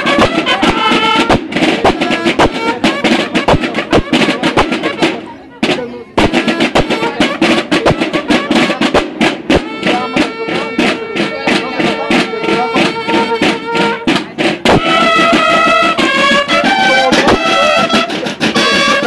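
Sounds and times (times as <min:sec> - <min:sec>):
bugles playing: 0:00.0 - 0:19.0
drums beating fast rhythm: 0:00.0 - 0:19.0.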